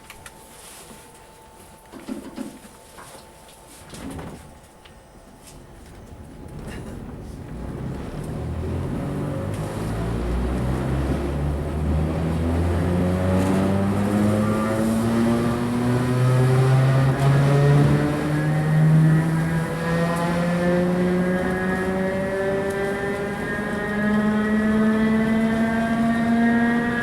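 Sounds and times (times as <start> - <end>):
rumble of running train: 3.8 - 27.0.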